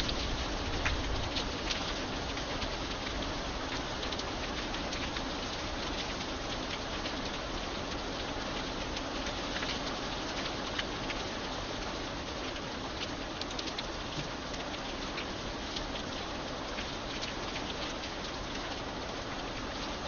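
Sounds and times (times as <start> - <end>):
raindrop ticks: 0.0 - 20.0
steady rain hiss: 0.0 - 20.0.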